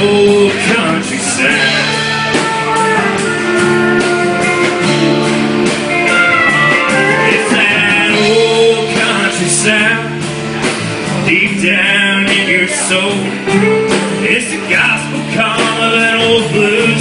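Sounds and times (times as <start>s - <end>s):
country band playing: 0.0s - 17.0s
lead guitar: 0.0s - 17.0s.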